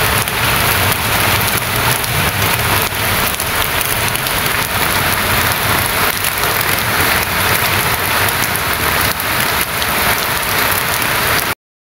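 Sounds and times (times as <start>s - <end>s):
heavy rain falling: 0.0s - 11.6s.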